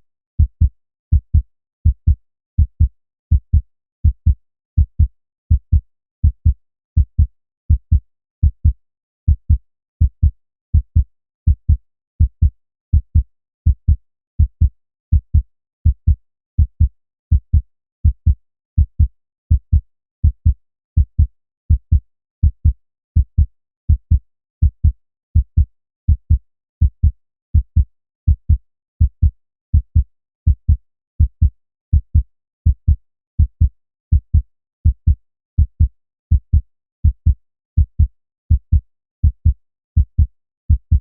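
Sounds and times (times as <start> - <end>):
heartbeat: 0.4 - 41.0.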